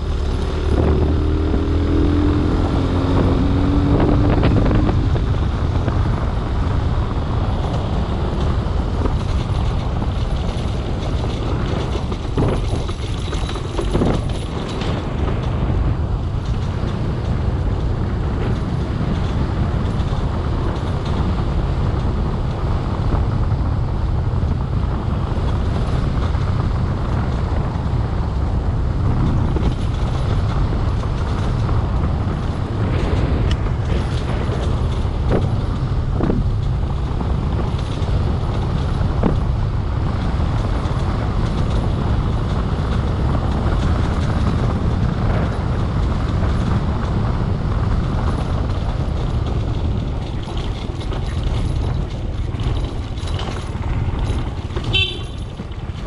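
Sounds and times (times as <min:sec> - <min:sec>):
vehicle creaks and squeaks: 0:00.0 - 0:56.0
vehicle rumbling on dirt road: 0:00.0 - 0:56.0.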